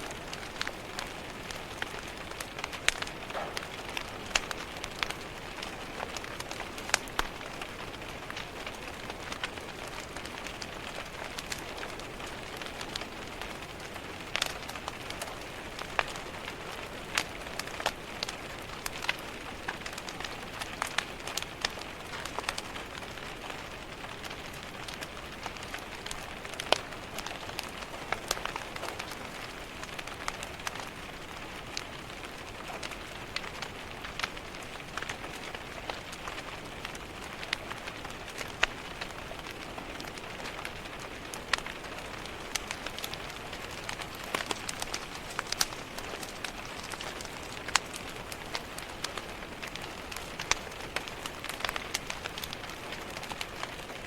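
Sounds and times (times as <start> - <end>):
rain pattering on a window: 0.0 - 54.0
wood fire crackling and popping: 0.0 - 54.0.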